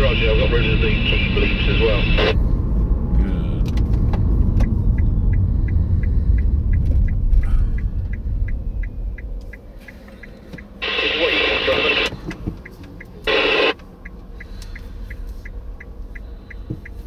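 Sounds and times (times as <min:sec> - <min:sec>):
car engine and road rumble: 0:00.0 - 0:17.0
turn signal ticking: 0:00.0 - 0:17.0.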